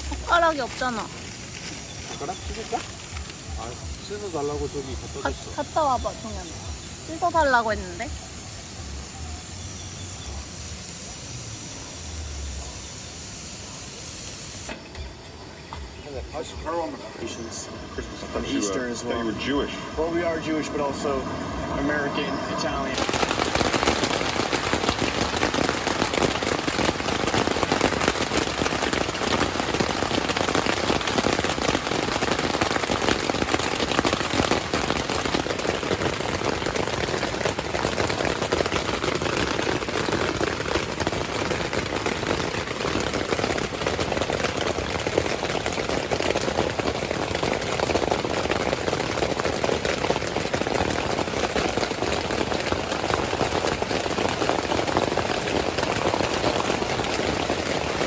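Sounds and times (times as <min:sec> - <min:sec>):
heavy rain falling: 0:00.0 - 0:14.8, 0:16.2 - 0:58.0.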